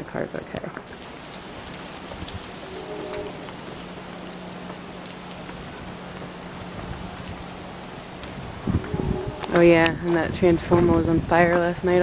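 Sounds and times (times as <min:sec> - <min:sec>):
water dripping: 0:00.0 - 0:12.0.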